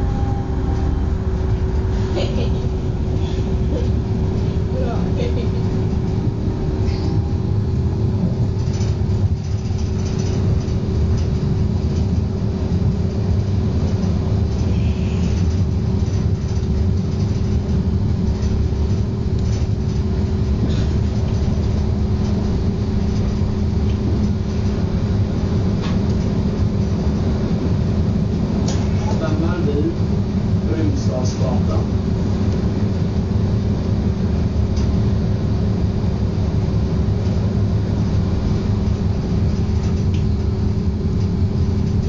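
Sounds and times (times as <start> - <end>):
steady hum: 0.0 - 42.0
train car rumble: 0.0 - 42.0.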